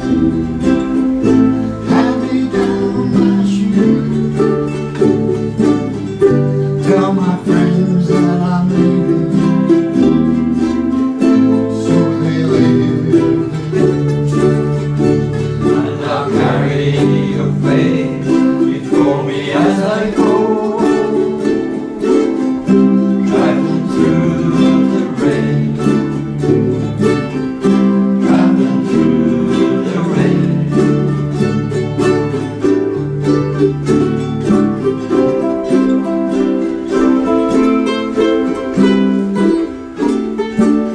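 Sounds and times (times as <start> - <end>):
ukuleles strumming chords: 0.0 - 40.9.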